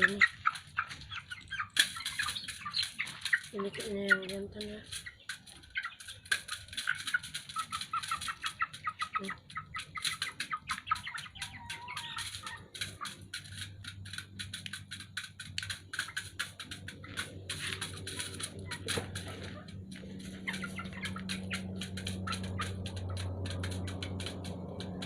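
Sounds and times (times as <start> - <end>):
young chickens peeping and clucking: 0.0 - 25.0.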